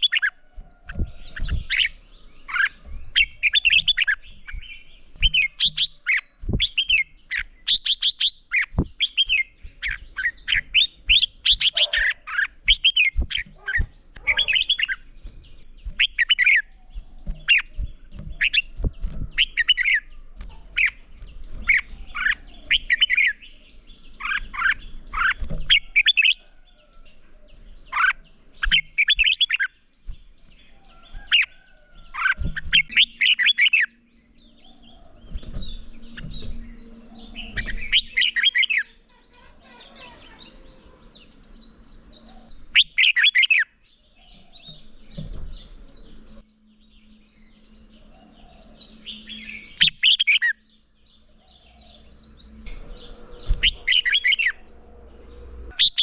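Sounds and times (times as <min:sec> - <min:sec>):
birds singing fast chirps: 0:00.0 - 0:56.0.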